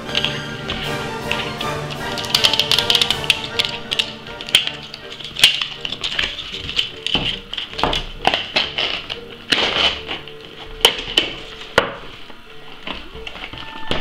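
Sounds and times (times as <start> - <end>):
background music with held tones: 0.0 - 14.0
cardboard and paper rustling: 0.1 - 14.0.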